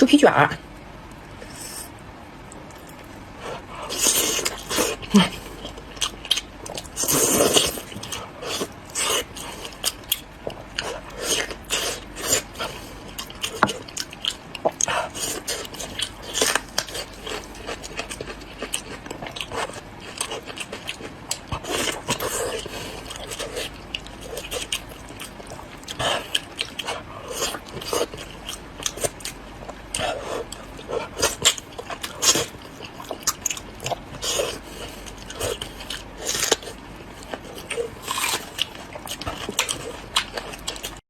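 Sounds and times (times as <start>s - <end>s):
person chewing food: 1.1s - 41.0s.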